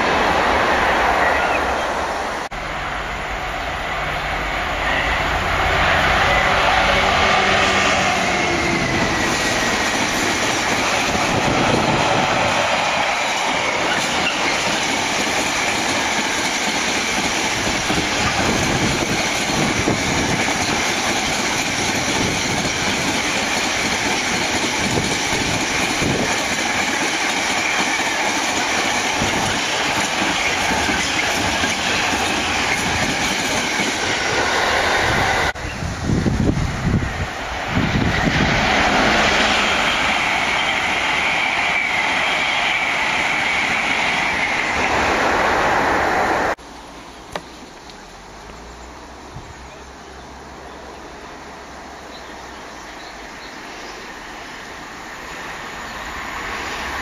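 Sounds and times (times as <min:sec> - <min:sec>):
diesel locomotive engine: 0:00.0 - 0:57.0
train wheel and rail noise: 0:00.0 - 0:57.0.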